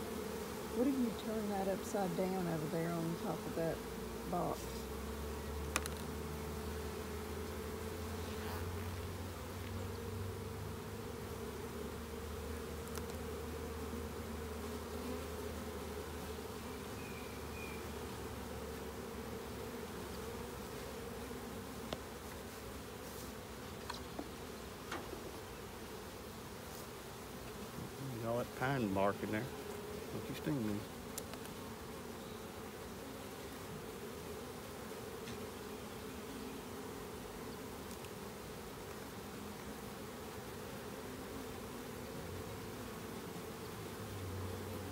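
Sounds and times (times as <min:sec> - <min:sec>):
bees buzzing: 0:00.0 - 0:44.9.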